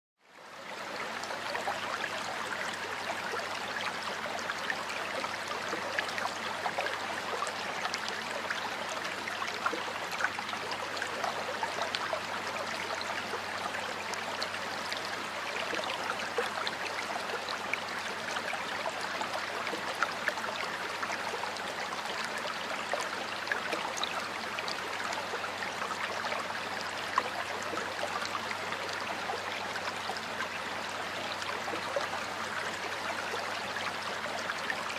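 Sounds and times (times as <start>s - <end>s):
stream water babbling: 0.2s - 34.9s.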